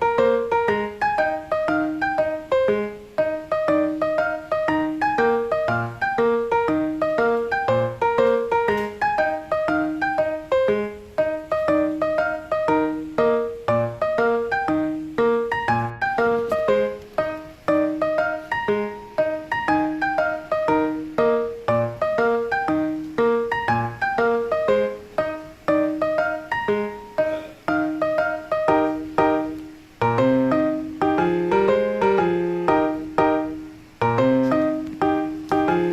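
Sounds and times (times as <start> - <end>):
solo piano music: 0.0 - 35.9.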